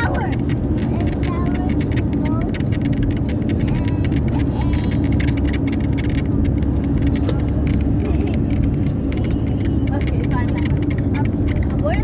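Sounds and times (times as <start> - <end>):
car engine and road rumble: 0.0 - 12.0
light ticks and rattles: 0.0 - 12.0.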